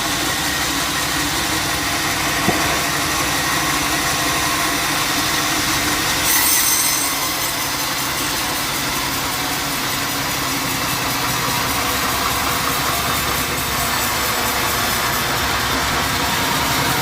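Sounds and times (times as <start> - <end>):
bandsaw sawmill humming: 0.0 - 17.0.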